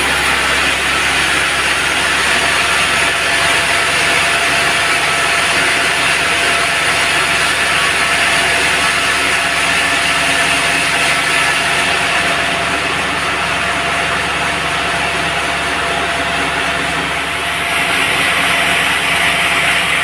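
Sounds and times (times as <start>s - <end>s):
band sawmill running: 0.0s - 20.0s.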